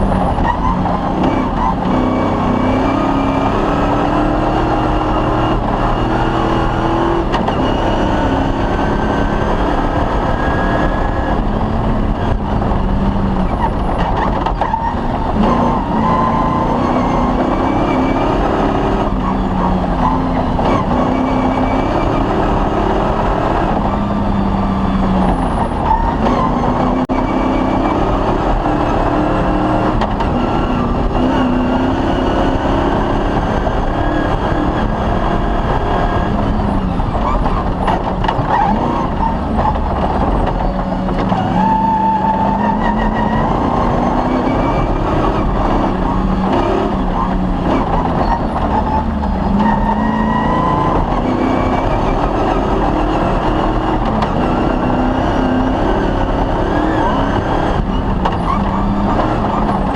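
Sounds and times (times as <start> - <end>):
constant road rumble: 0.0 - 59.9
rally car engine revving: 0.0 - 59.9.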